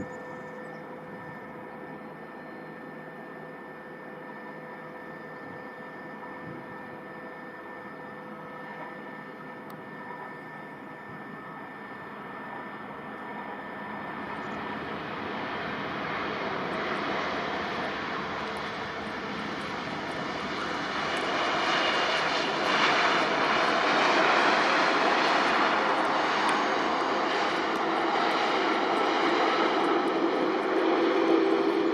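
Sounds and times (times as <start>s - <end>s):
jet engines rushing and whining: 0.0s - 31.9s.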